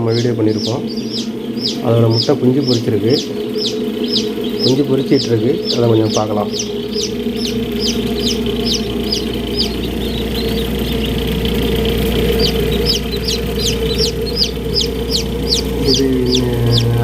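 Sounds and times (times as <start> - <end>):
chicks peeping: 0.0 - 17.0
steady hum: 0.0 - 17.0.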